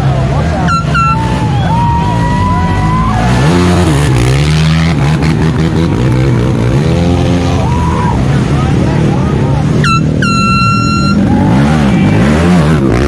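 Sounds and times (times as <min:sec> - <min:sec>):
atv engines revving hard: 0:00.0 - 0:13.0.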